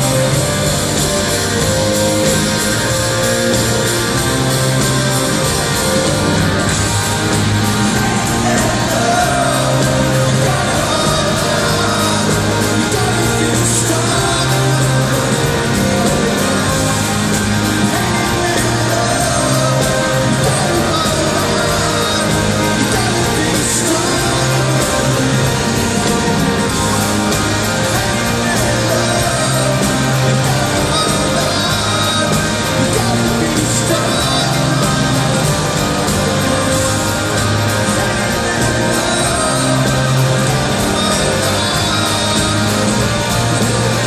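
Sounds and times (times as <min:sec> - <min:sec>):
live rock band playing: 0:00.0 - 0:44.0
man singing: 0:00.0 - 0:44.0.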